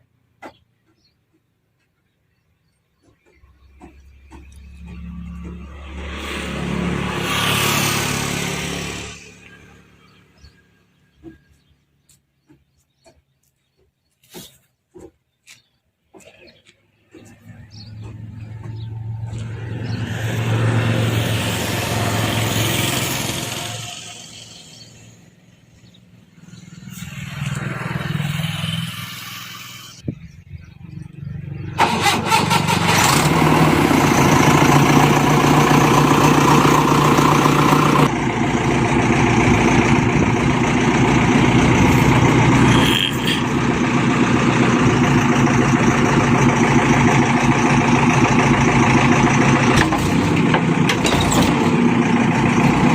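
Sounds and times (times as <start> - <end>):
backhoe loader diesel engine: 0.0 - 15.3, 16.1 - 52.9
tractor diesel engine: 2.9 - 13.2, 16.1 - 52.9.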